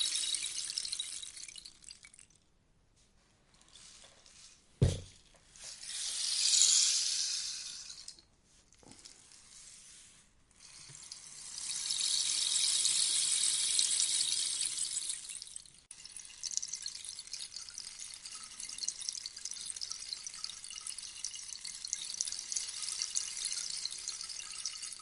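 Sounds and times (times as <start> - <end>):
rainstick beads trickling: 0.0 - 2.4, 3.6 - 4.5, 5.6 - 9.4, 10.6 - 25.0.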